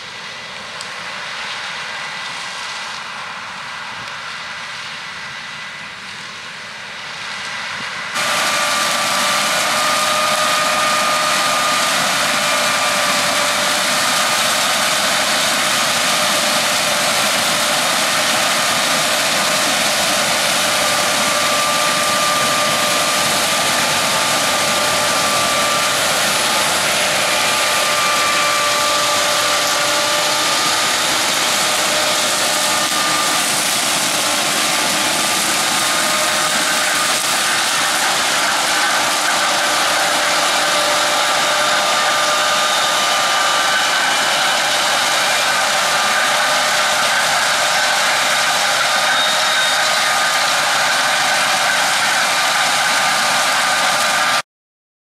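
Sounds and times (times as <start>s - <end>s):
combine harvester machinery noise: 0.0s - 54.4s.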